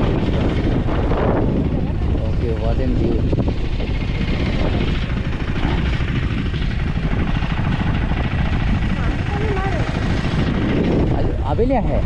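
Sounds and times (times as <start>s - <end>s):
motorcycle engine rumble: 0.0s - 12.0s
wind on microphone: 0.0s - 12.0s.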